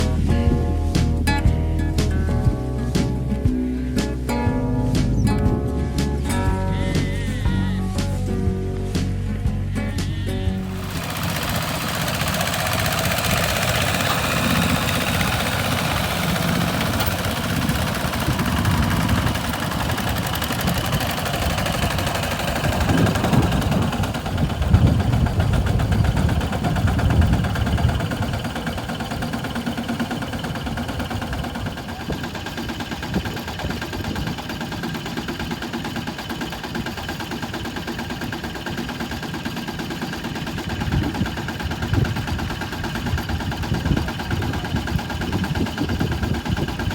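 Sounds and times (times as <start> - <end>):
diesel tractor engine running: 0.0 - 46.9.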